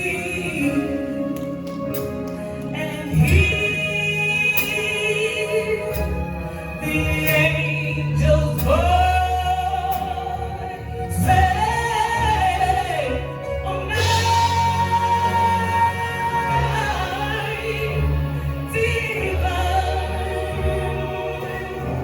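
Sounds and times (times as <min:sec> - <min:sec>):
musical accompaniment: 0:00.0 - 0:22.0
person singing with vibrato: 0:00.0 - 0:22.0.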